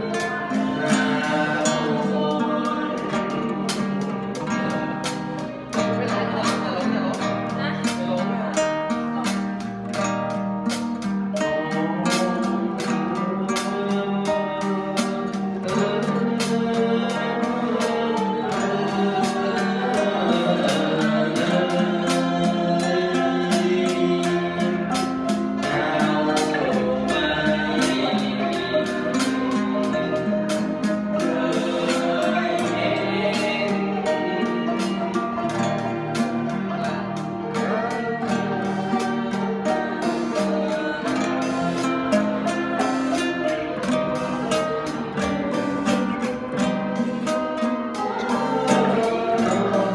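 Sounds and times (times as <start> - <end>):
man singing into a microphone: 0.0 - 49.9
zither ensemble playing quick notes: 0.0 - 49.9.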